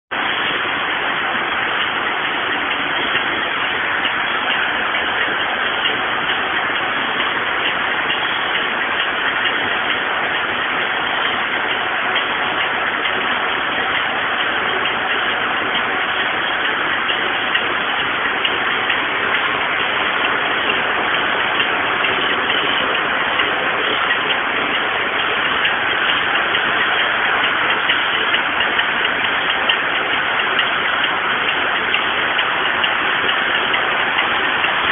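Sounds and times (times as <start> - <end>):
knitting machine clattering: 0.3 - 34.9.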